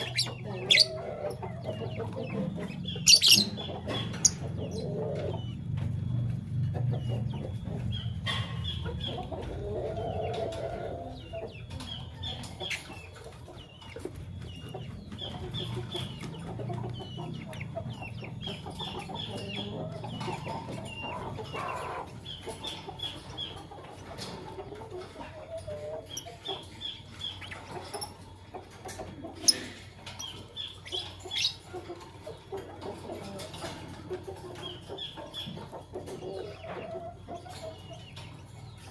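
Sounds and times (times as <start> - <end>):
lovebirds chirping: 0.0 - 33.6.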